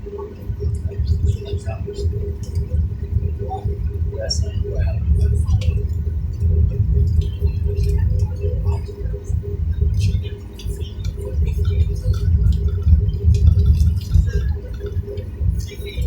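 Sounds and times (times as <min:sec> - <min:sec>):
cabin rumble: 0:00.0 - 0:16.0
constant hum: 0:00.0 - 0:16.0.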